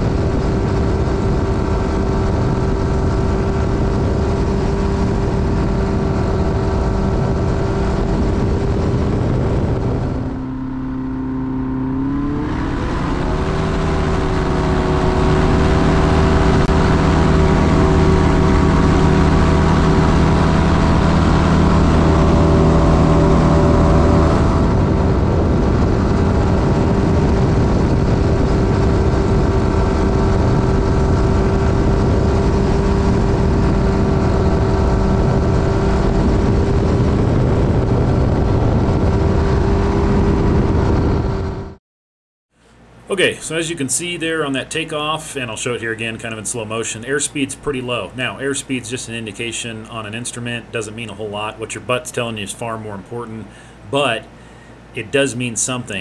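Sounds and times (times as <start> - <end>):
plane engine and propeller: 0.0 - 41.8, 42.6 - 56.0.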